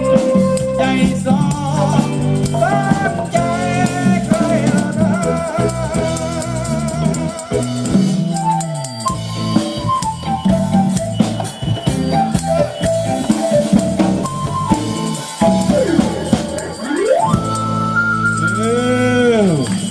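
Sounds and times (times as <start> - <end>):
bass: 0.0 - 19.9
drum kit: 0.0 - 19.9
folk-rock band playing: 0.0 - 19.9
lead melody: 0.0 - 19.9.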